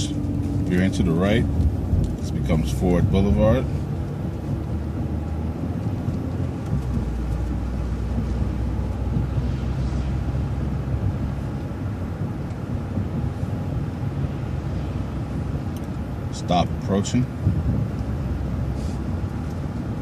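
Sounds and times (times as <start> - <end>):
bus engine hum: 0.0 - 20.0
road rumble: 0.0 - 20.0.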